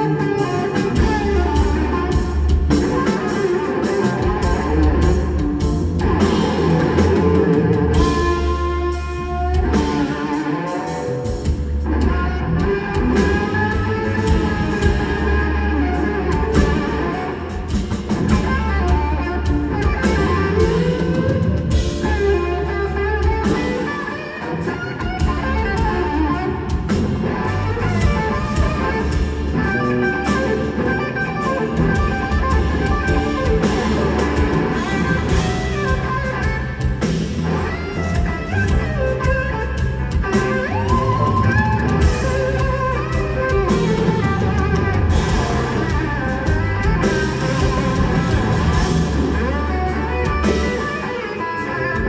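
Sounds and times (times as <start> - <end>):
bass guitar: 0.0 - 52.0
drums: 0.0 - 52.0
electric guitar lead: 0.0 - 52.0.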